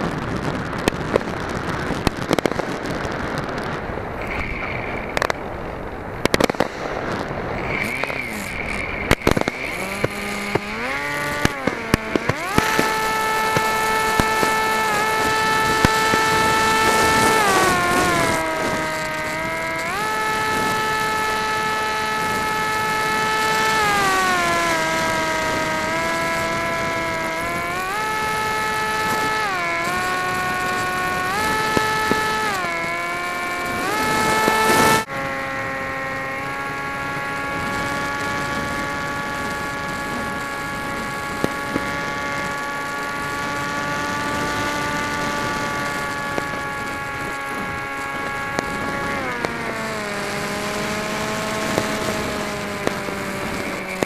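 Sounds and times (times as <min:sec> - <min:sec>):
firework pops and crackles: 0:00.0 - 0:35.1, 0:36.5 - 0:54.0
motor and propeller whine: 0:00.0 - 0:54.0.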